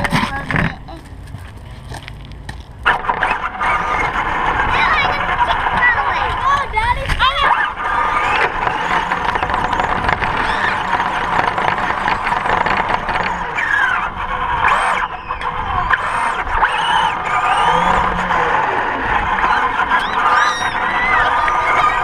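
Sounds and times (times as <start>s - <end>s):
steady rushing noise: 0.0s - 22.0s
remote-control car motor whining: 2.9s - 22.0s.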